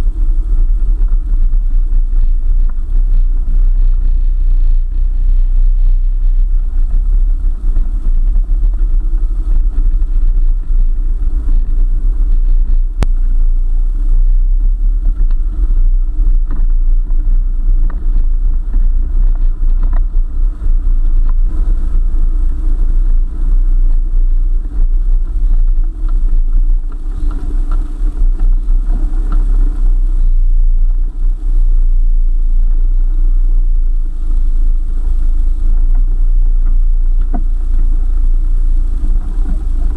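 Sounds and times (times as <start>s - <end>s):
vehicle engine rumble: 0.0s - 39.9s.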